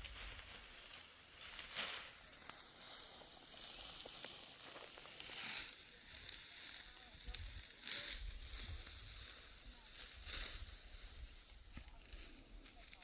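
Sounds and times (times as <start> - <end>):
dry wheat stalks rustling: 0.0 - 13.0
sickle swishing through stalks: 0.0 - 13.0.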